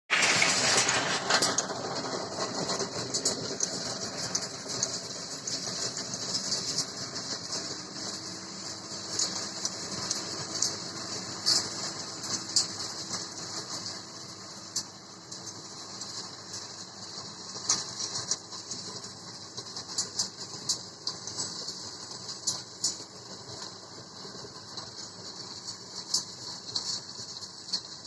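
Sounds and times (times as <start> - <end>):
tractor running: 0.1 - 28.0.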